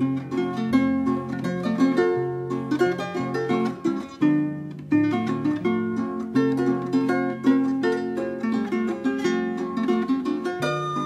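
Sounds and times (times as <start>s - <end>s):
plucked string instrument music: 0.0s - 11.0s.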